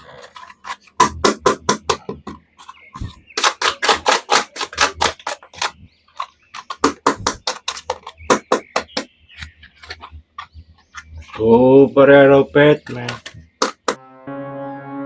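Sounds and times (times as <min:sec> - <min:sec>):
rapid sharp clicks and taps: 0:00.7 - 0:11.6, 0:12.8 - 0:14.0.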